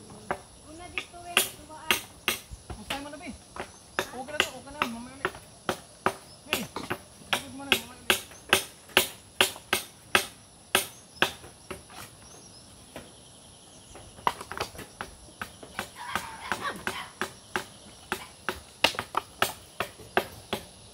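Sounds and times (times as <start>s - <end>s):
high insect drone: 0.0s - 20.9s
tool knocking coconut shells: 0.2s - 11.9s, 14.0s - 20.8s.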